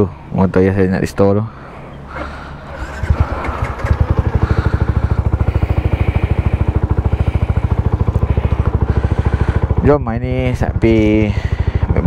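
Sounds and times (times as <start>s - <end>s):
motorcycle engine idling: 1.4s - 12.0s.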